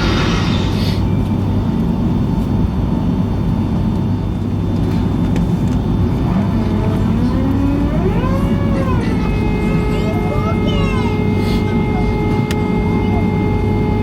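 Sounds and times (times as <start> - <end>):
low engine rumble in cabin: 0.0 - 14.0
rising engine whine: 0.0 - 14.0.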